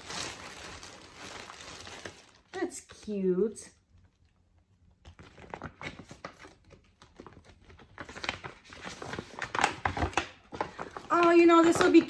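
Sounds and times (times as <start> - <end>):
plastic packaging crinkling: 0.0 - 3.1, 3.9 - 12.0.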